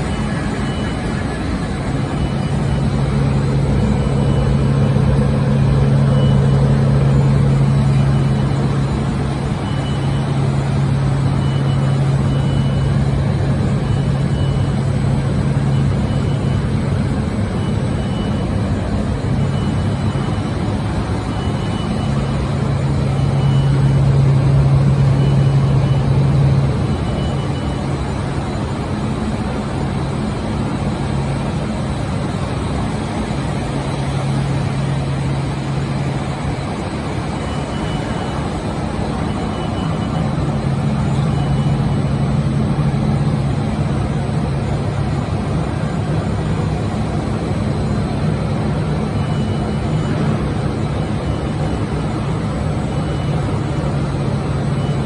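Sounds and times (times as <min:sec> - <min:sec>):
low motor hum: 0:00.0 - 0:55.0.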